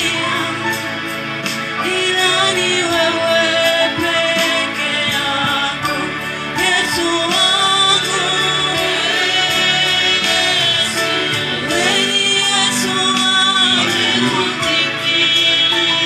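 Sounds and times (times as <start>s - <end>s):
instrumental backing: 0.0s - 16.0s
people singing worship song: 0.0s - 16.0s.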